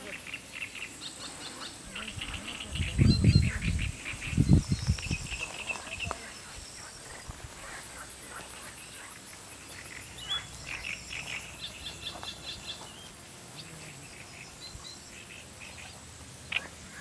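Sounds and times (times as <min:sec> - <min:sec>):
insect hum with ticking: 0:00.0 - 0:17.0
small birds chirping: 0:00.0 - 0:17.0.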